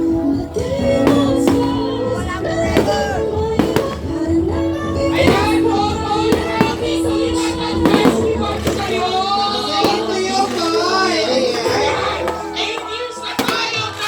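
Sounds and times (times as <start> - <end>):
fireworks banging: 0.0 - 14.0
loud music with singing: 0.0 - 14.0.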